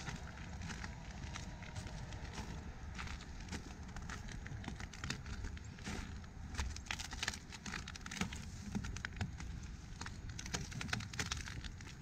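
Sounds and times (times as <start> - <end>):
footsteps crunching in snow: 0.0 - 10.8.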